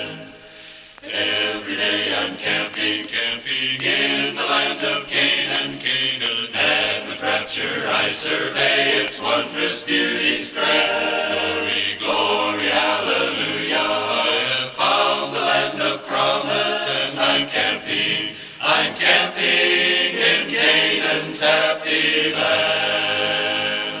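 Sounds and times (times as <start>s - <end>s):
male vocal group singing in harmony: 0.0s - 24.0s.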